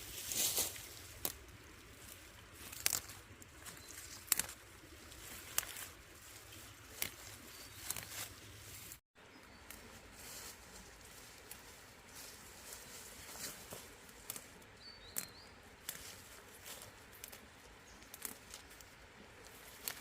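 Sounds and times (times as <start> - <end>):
dry leaves crackling: 0.0 - 20.0
rustling of plants: 0.0 - 20.0.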